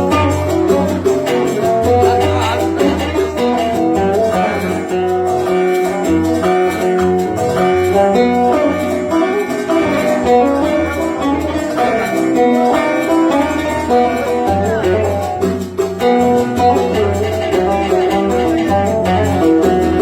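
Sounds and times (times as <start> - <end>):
oud plucked notes: 0.0 - 20.0.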